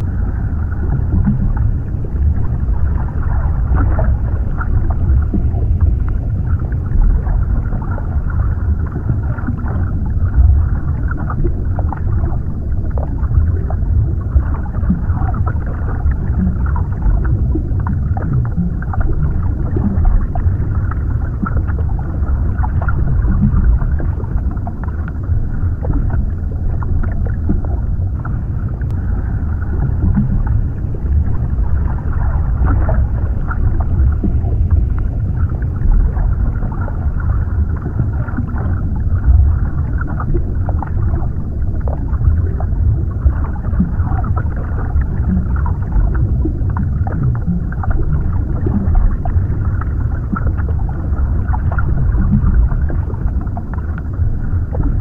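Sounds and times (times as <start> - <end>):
muffled underwater rumble: 0.0 - 55.0
small bubbling crackles: 0.0 - 55.0.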